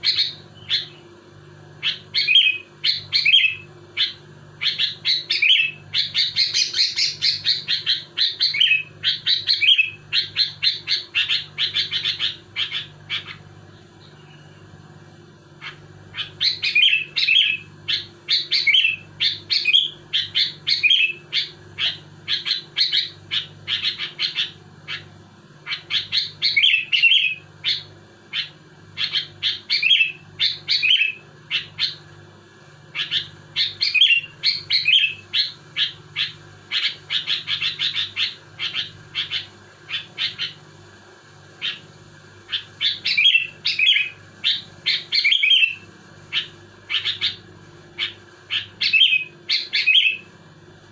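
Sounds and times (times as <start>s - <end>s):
bird singing chirpy phrases: 0.0s - 1.2s, 1.8s - 14.7s, 15.6s - 32.0s, 32.9s - 40.6s, 41.6s - 41.9s, 42.5s - 50.3s.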